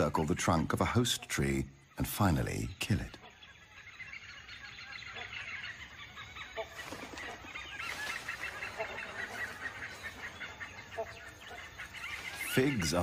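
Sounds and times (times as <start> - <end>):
birds chattering: 0.0 - 13.0.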